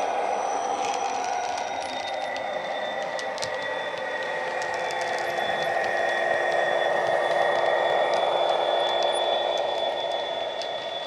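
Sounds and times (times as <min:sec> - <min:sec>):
model train engine hum: 0:00.0 - 0:11.0.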